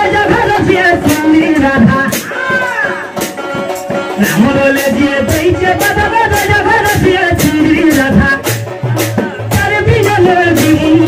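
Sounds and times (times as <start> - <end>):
person singing: 0.0 - 3.3, 4.1 - 11.0
barrel drum beating: 0.0 - 11.0.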